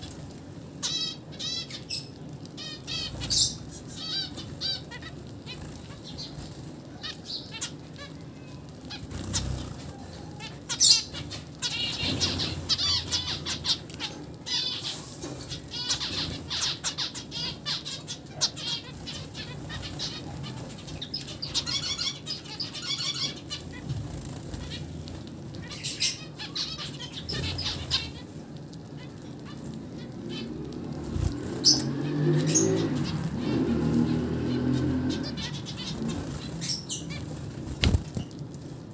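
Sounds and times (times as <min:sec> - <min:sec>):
wings fluttering: 0:00.0 - 0:38.9
finches chirping: 0:00.8 - 0:28.3, 0:29.0 - 0:38.4.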